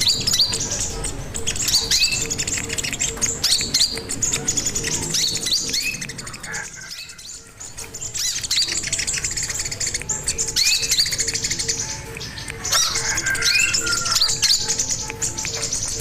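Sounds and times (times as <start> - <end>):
bird singing high chirps: 0.0 - 16.0.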